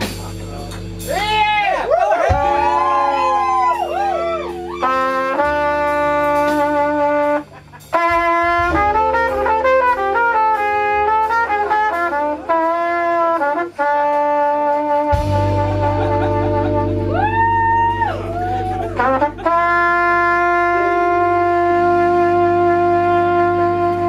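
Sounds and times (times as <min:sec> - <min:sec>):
bass and drums: 0:00.0 - 0:24.0
heavy low bass: 0:00.0 - 0:24.0
keyboard chords: 0:00.0 - 0:24.0
trumpet playing: 0:00.9 - 0:24.0.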